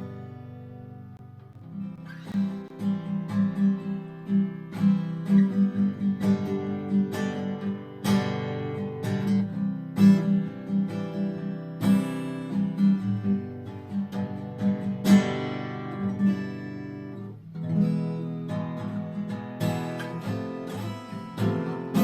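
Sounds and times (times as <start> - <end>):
fingerpicked acoustic guitar: 0.0 - 22.0.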